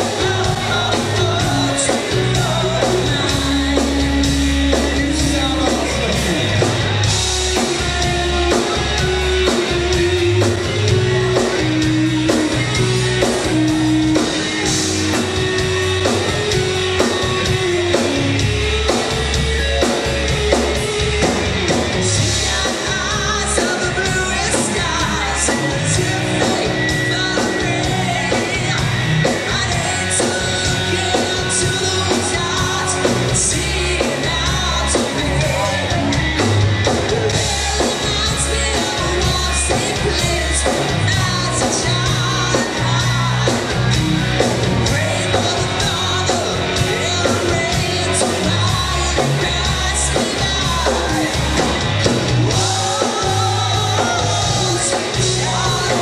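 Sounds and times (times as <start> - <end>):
bass guitar: 0.0 - 56.0
drum kit: 0.0 - 56.0
electric guitar: 0.0 - 56.0
lead singer vocals: 0.0 - 56.0.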